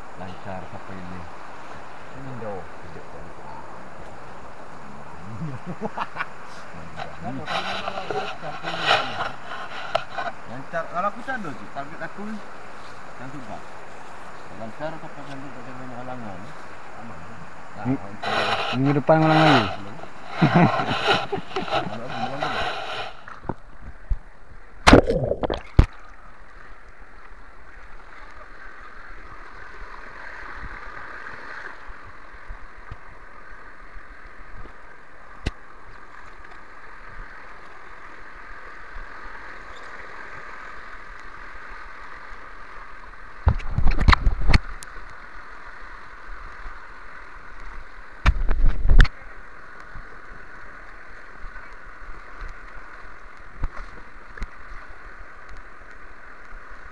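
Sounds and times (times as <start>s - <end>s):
river water gurgling: 0.0s - 56.9s.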